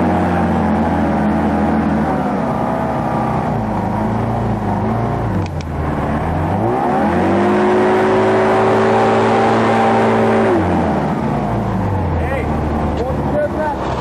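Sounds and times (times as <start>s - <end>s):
hovercraft engine running: 0.0s - 14.0s.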